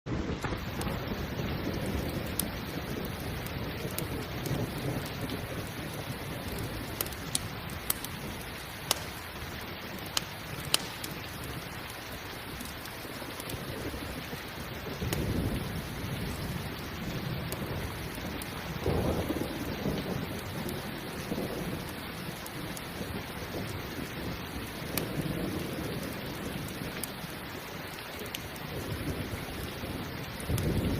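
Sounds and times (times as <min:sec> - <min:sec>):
thunder rolling: 0:00.1 - 0:27.0, 0:28.6 - 0:30.9
campfire crackling: 0:00.1 - 0:30.9
steady rain: 0:00.1 - 0:30.9.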